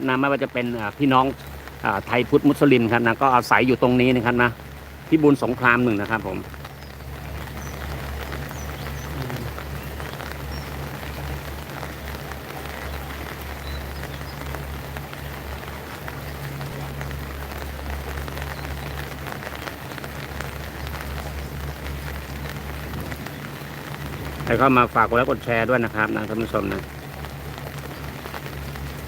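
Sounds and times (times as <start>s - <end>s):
constant low hum: 0.0s - 29.0s
rain pattering: 0.0s - 29.0s.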